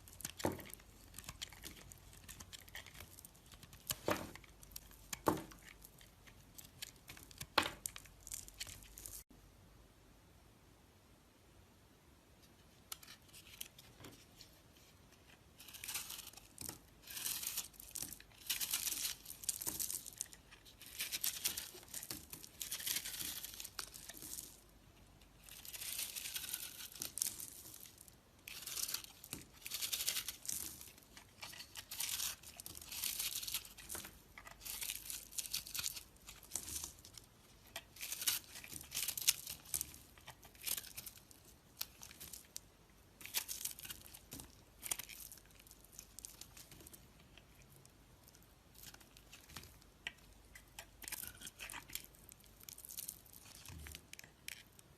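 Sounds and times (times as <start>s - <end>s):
dry soap crumbling and crackling: 0.0s - 9.3s, 12.9s - 54.9s.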